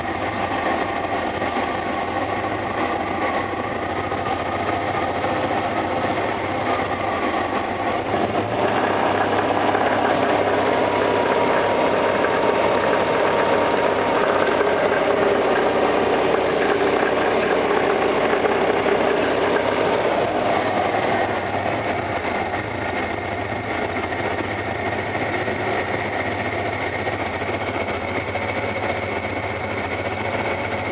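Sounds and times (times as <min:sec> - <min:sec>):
car engine knocking: 0:00.0 - 0:30.9.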